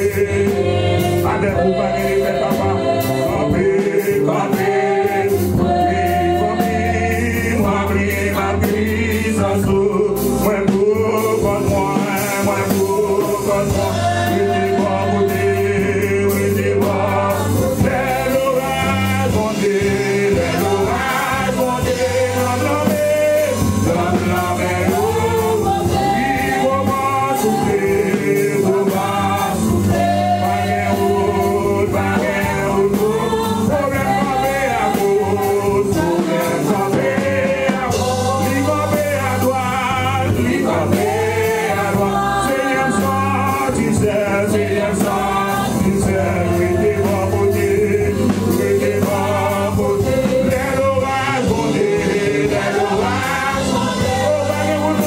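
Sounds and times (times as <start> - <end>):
gospel choir singing in harmony: 0.0 - 55.0.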